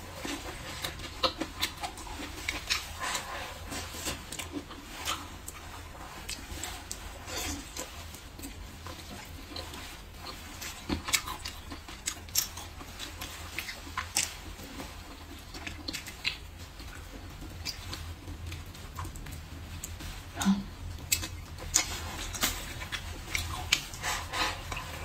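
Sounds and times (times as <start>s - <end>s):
chewing and mouth sounds: 0.0s - 25.0s.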